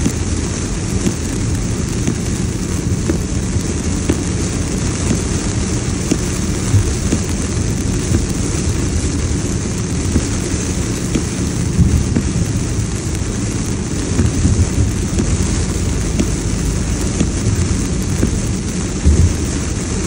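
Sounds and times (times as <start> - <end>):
heavy rain on car windshield: 0.0 - 20.0
tyres rumbling on flooded road: 0.0 - 20.0
wind: 0.0 - 20.0.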